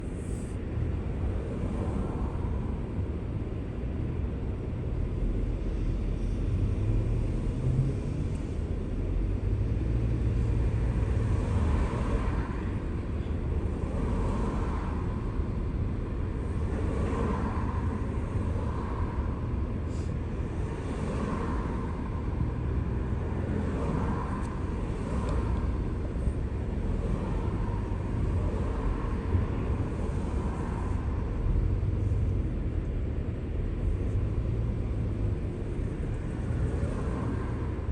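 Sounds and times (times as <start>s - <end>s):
car engine and tyre rumble: 0.0s - 37.9s.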